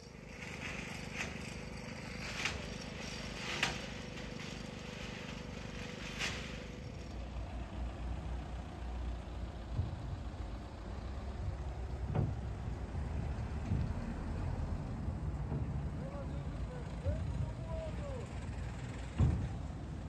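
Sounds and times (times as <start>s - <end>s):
vehicle engines idling: 0.0s - 20.0s.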